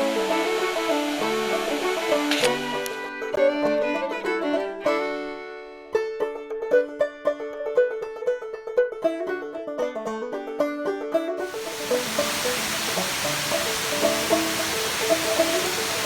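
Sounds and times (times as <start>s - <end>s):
fast-picked banjo tune: 0.0s - 16.0s.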